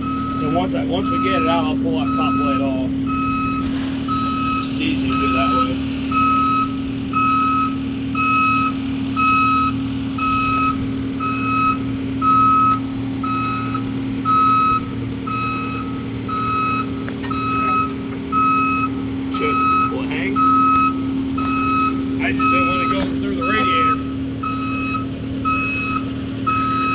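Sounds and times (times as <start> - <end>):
heavy machine engine rumble: 0.0 - 26.9
reversing alarm beeps: 0.0 - 26.9.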